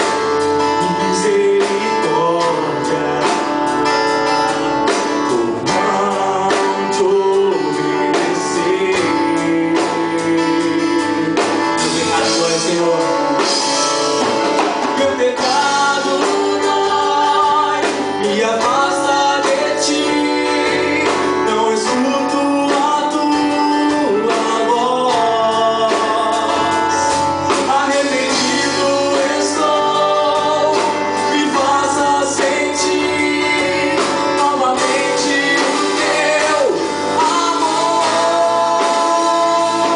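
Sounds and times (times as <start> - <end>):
band playing gospel song: 0.0 - 39.9
person singing: 0.0 - 39.9.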